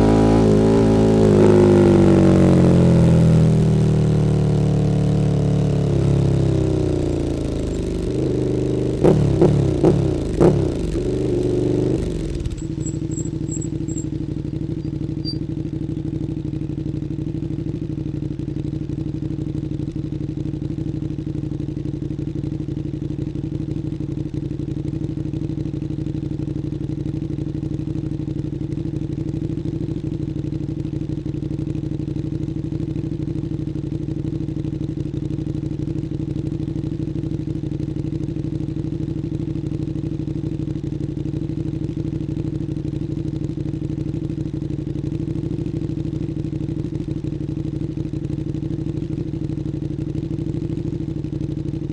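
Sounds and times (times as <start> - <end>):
motorcycle engine revving and idling: 0.0 - 51.9.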